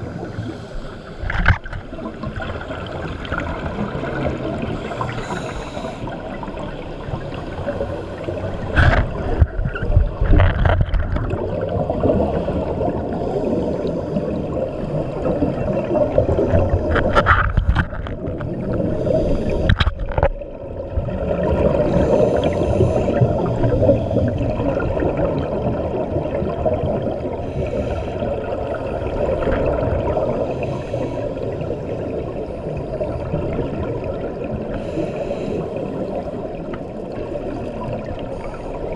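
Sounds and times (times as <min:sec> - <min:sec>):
muffled underwater rushing: 0:00.0 - 0:38.9
bubbles gurgling underwater: 0:01.2 - 0:38.9.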